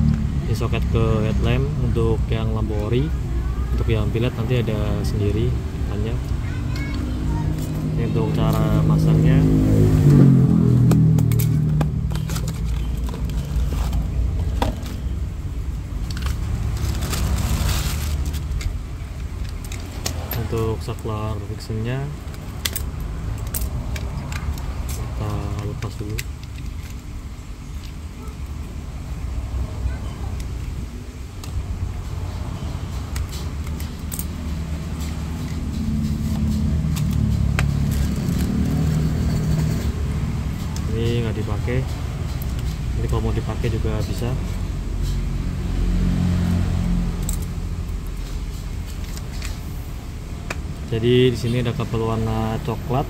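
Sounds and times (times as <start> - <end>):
low engine hum: 0.0 - 53.0.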